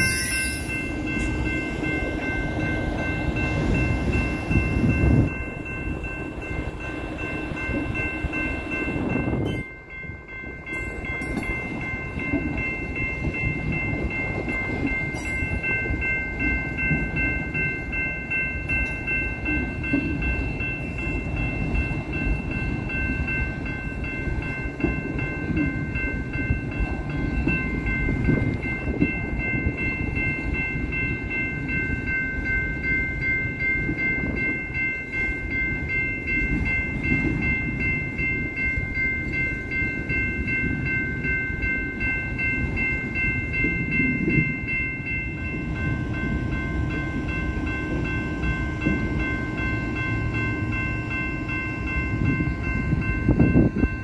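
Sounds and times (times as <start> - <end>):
crossing warning bell ringing: 0.0 - 54.0
train wheels rumbling on rails: 0.0 - 54.0.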